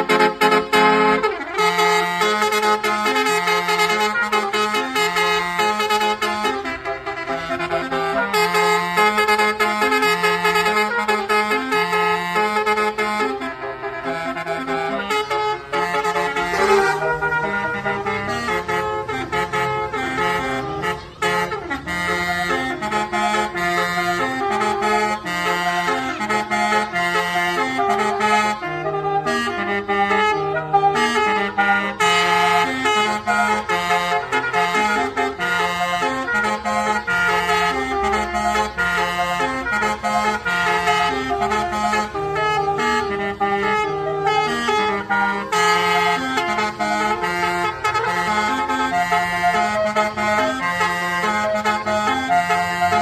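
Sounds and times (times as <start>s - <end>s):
bus horn playing a melody: 0.0s - 53.0s.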